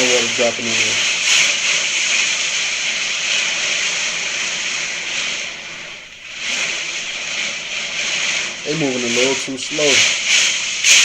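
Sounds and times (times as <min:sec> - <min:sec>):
heavy water pouring: 0:00.0 - 0:11.0.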